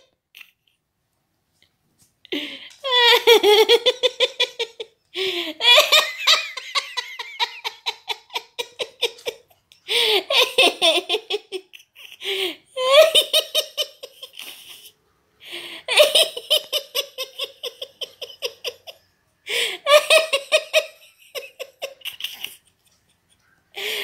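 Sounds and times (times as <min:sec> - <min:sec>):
person laughing hard: 0:02.4 - 0:14.9, 0:15.8 - 0:24.0.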